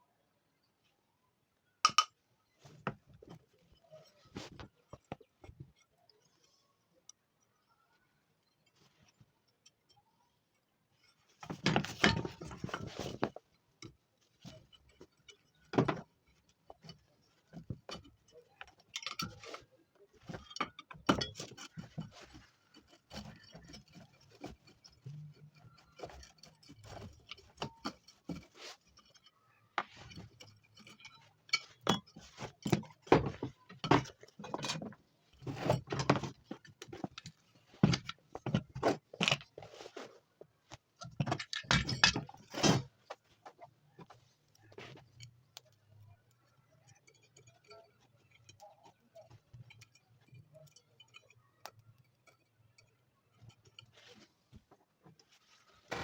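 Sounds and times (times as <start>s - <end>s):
metal parts and tools clinking: 8.3s - 56.0s.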